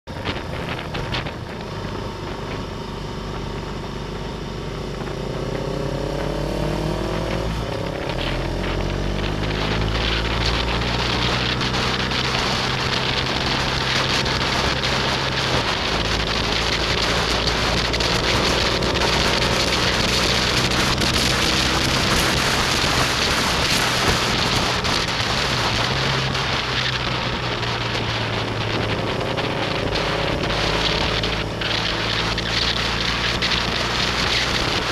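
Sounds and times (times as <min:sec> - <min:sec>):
motorcycle engine accelerating: 0:00.0 - 0:34.9
wind rush on microphone: 0:00.0 - 0:34.9.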